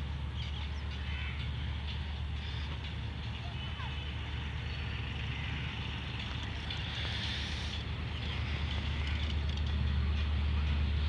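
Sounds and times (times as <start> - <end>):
diesel locomotive drone: 0.0 - 11.0.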